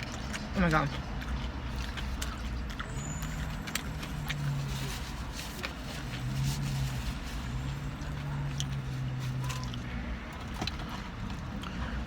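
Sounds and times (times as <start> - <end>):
eating crunches: 0.0 - 12.0.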